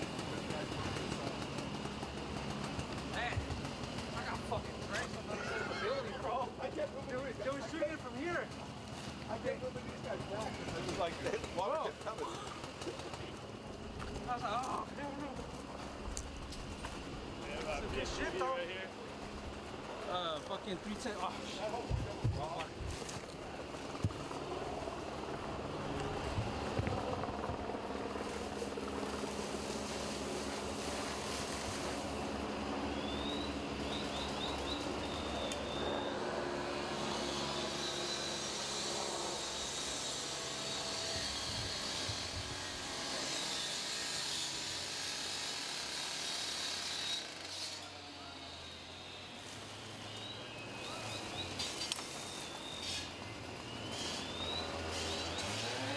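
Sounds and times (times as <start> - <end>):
engine drone: 0.0 - 55.9.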